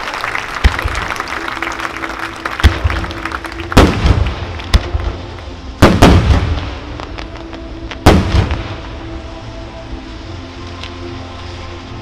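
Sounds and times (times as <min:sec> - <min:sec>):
faint music: 0:00.0 - 0:12.0.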